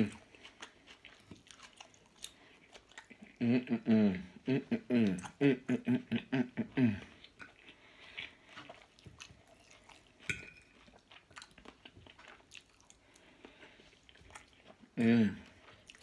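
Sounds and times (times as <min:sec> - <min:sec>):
faint chewing of food: 0:00.0 - 0:16.0.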